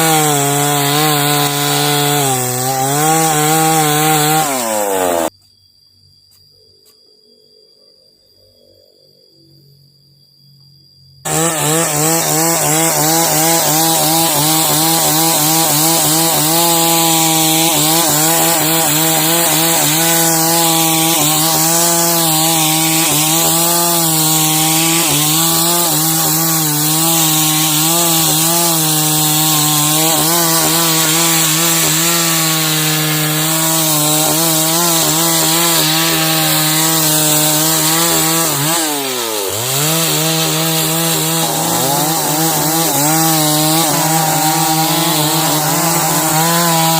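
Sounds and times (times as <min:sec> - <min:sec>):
chainsaw sawing timber: 0:00.0 - 0:05.3, 0:11.3 - 0:46.9.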